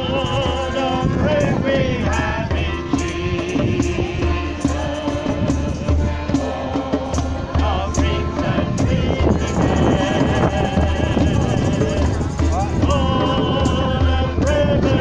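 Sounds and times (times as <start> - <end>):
group singing worship song: 0.0 - 15.0
wind buffeting microphone: 0.0 - 15.0.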